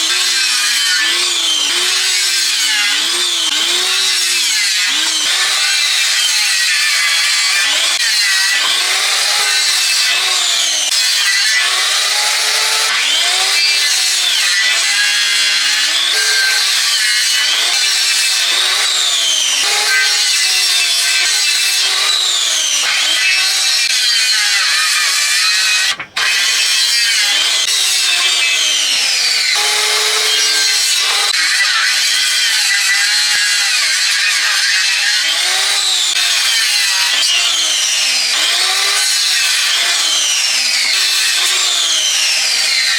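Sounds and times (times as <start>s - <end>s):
hand saw cutting wood: 0.0s - 42.9s.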